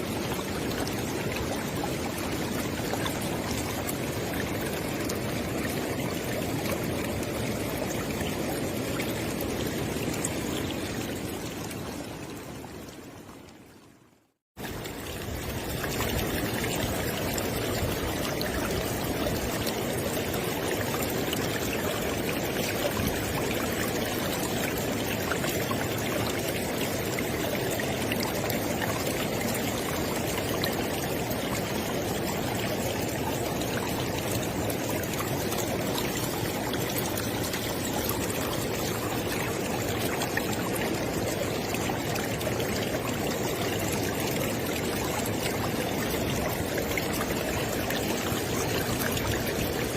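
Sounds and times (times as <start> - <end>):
river water flowing: 0.0 - 49.9.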